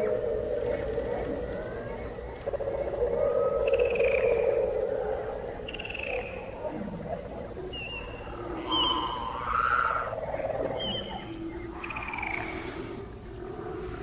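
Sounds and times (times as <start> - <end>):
frogs trilling in chorus: 0.0 - 14.0.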